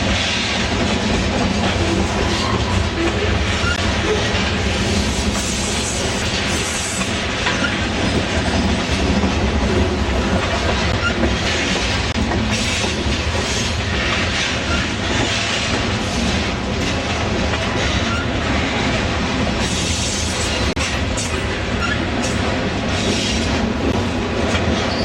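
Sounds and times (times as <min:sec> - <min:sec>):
freight train rolling past: 0:00.0 - 0:25.0
steel wheels clattering over rail joints: 0:00.0 - 0:25.0.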